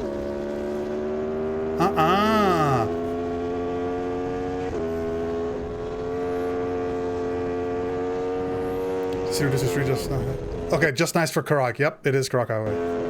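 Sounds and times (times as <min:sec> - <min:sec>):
passing vehicle: 0:00.0 - 0:10.8
motorcycle engine drone: 0:00.0 - 0:11.6, 0:12.3 - 0:13.0
wind: 0:00.0 - 0:13.0.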